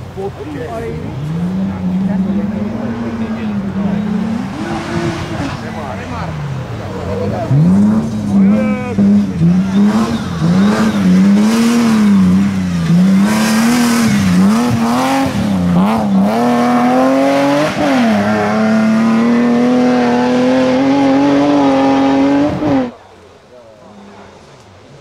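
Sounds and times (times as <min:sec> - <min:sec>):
rally car engine at hard throttle: 0:00.0 - 0:25.0.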